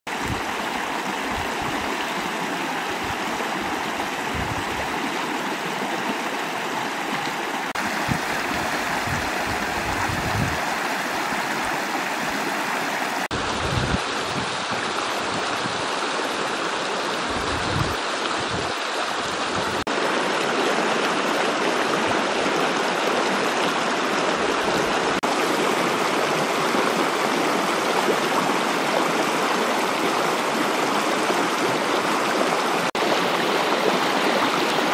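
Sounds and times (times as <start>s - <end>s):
stream rushing over stones: 0.1s - 34.9s.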